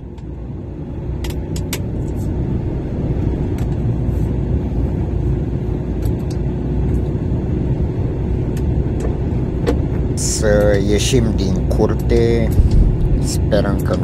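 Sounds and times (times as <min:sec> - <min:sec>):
diesel engine low rumble: 0:00.0 - 0:14.0
faint steady hum: 0:00.0 - 0:14.0.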